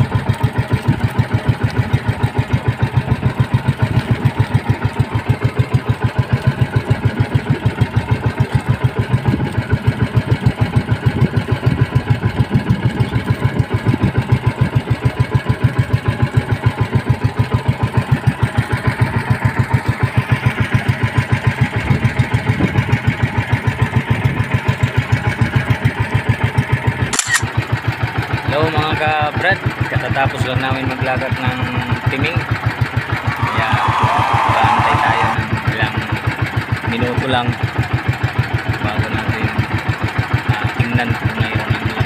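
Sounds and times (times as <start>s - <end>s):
boat engine chugging: 0.0s - 42.0s.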